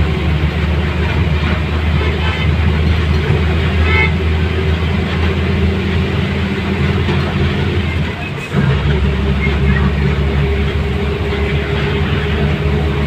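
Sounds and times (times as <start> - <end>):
road vehicle rumble: 0.0 - 13.0
traffic noise: 0.0 - 13.0.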